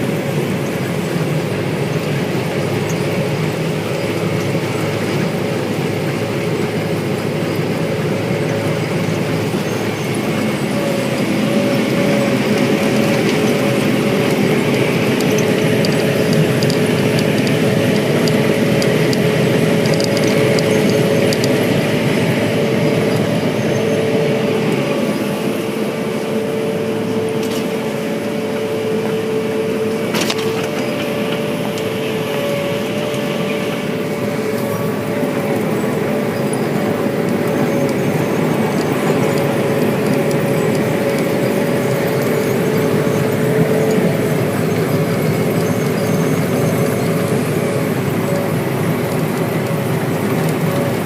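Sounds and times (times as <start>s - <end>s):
constant high whine: 0.0s - 51.0s
harvesting machinery engine noise: 0.0s - 51.0s.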